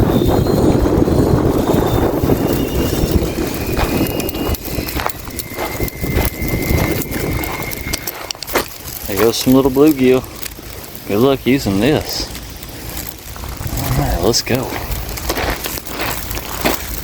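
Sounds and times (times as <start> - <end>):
wind buffeting microphone: 0.0 - 17.0
sharp clicks: 2.5 - 17.0.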